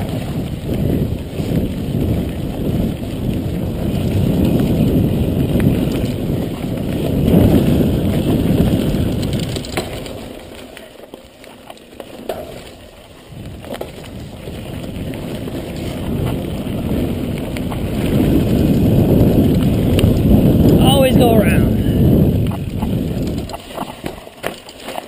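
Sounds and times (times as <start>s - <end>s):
wind rumbling on microphone: 0.0s - 10.7s, 12.3s - 25.0s
bike tyres on dirt trail: 0.0s - 25.0s.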